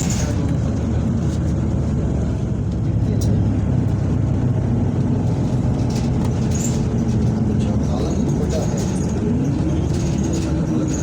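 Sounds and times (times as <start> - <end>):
engine low rumble: 0.0 - 11.0.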